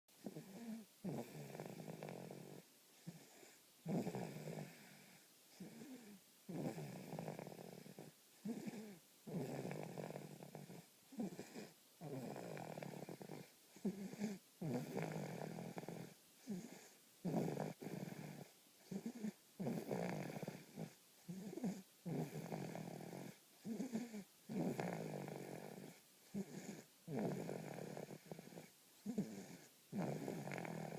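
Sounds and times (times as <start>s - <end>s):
person snoring: 0.2s - 30.9s.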